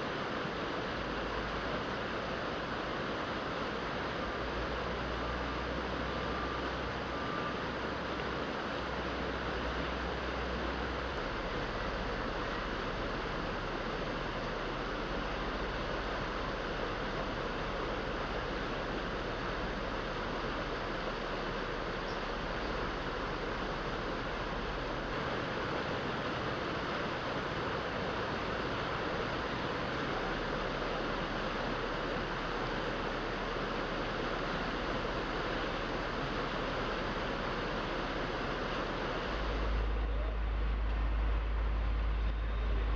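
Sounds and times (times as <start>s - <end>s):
flowing water rushing: 0.0s - 42.9s.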